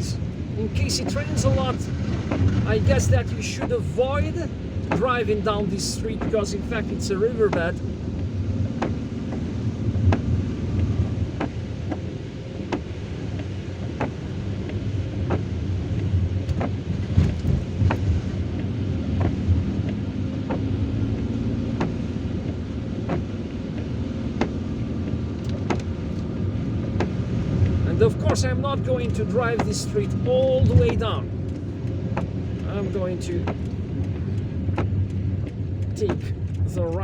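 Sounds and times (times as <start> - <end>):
car engine and tyres rumbling: 0.0 - 37.0
raindrops ticking on car roof: 0.1 - 37.0.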